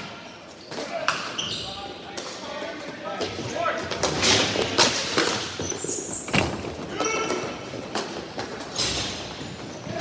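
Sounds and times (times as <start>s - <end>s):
rink clatter and echo: 0.7s - 10.0s.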